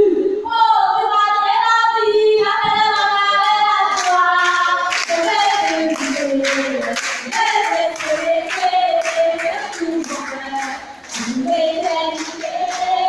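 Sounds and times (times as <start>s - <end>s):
group of people singing: 0.5s - 13.0s
rhythmic handclapping: 2.4s - 13.0s.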